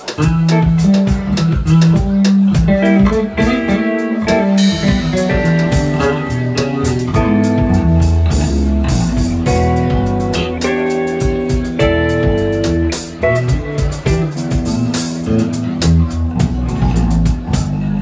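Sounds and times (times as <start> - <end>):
drum kit: 0.0 - 18.0
electric bass line: 0.0 - 18.0
electric guitar: 0.0 - 18.0.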